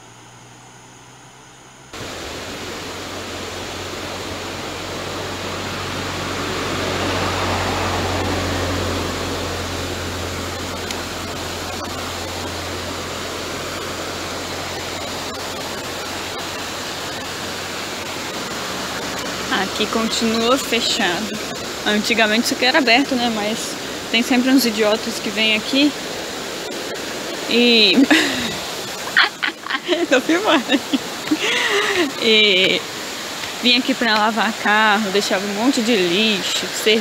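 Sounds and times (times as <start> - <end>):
water rushing over a weir: 1.9 - 37.0.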